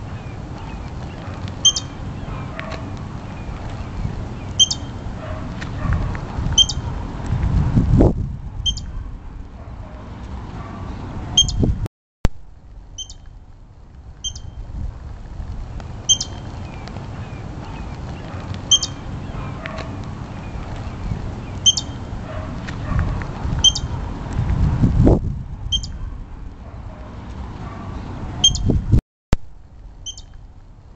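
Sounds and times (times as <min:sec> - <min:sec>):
steady low rumble: 0:00.0 - 0:30.9.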